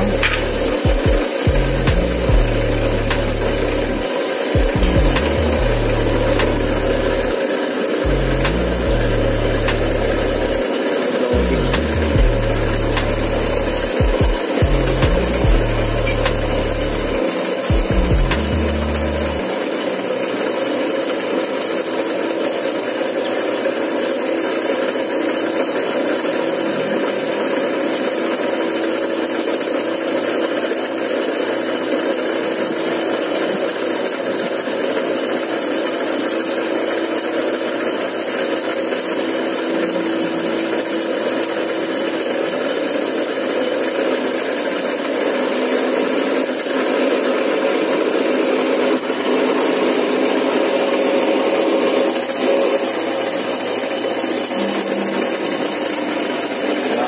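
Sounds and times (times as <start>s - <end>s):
power tool whining: 0.0s - 57.0s.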